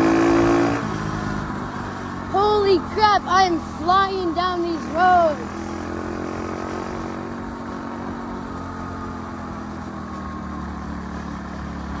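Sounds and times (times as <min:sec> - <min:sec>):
dirt bike engine running: 0:00.0 - 0:10.2.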